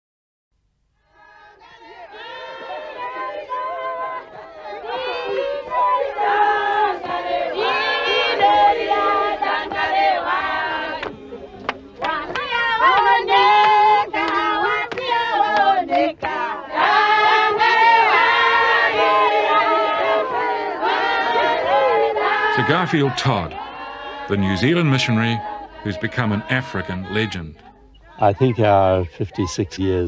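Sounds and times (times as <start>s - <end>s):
choir singing in parts: 1.1s - 30.0s.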